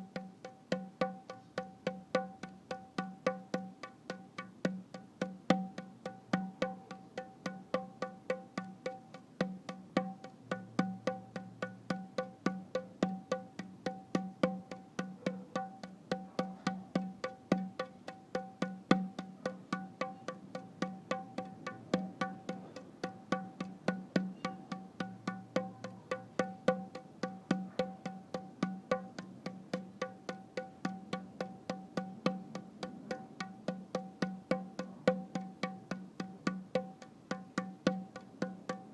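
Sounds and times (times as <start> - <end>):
percussive instrumental music: 0.0 - 38.9.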